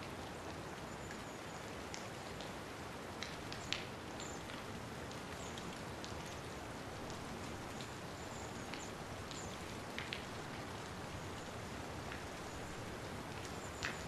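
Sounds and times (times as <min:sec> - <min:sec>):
sharp ticks of raindrops: 0:00.0 - 0:14.0
steady rain hiss: 0:00.0 - 0:14.0.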